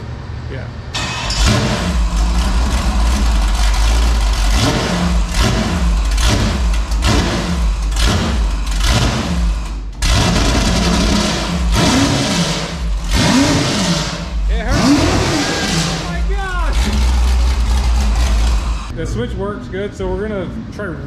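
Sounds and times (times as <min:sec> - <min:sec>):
loud engine revving: 0:01.0 - 0:19.6.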